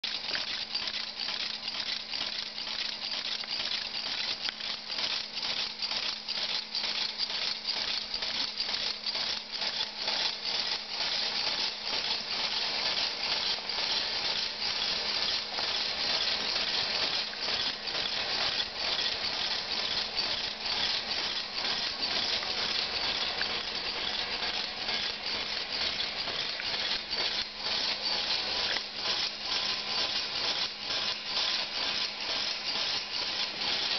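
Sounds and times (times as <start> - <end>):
metal rods rattling and clicking: 0.0 - 33.9.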